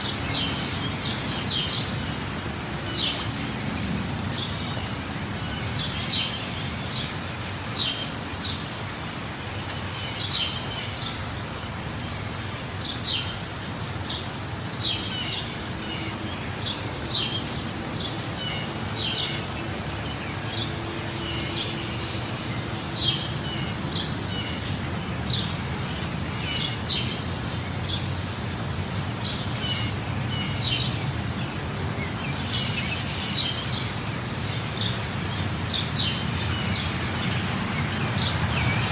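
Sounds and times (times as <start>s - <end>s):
birds chirping: 0.0s - 38.9s
water noise: 0.0s - 38.9s.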